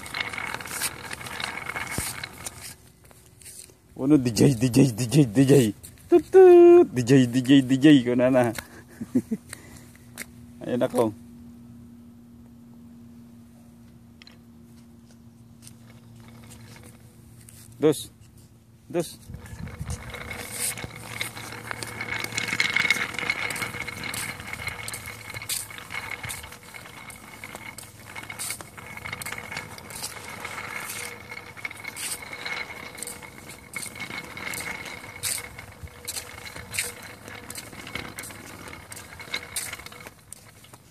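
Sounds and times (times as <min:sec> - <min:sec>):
wooden toy wheels rattling on concrete: 0:00.0 - 0:11.2, 0:14.1 - 0:40.9.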